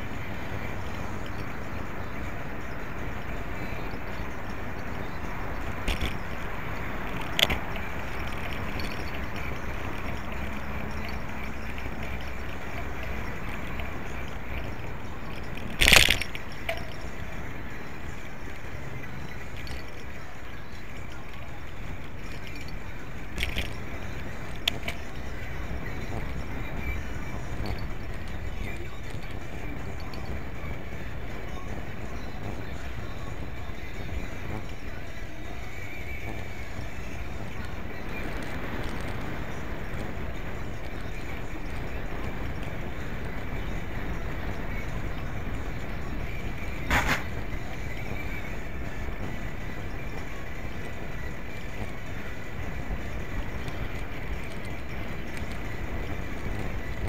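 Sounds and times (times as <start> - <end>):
bicycle tyre noise: 0.0 - 57.0
faint ticks and rattles: 0.0 - 57.0
sharp clatter: 0.0 - 57.0
wind rumble on microphone: 0.0 - 57.0.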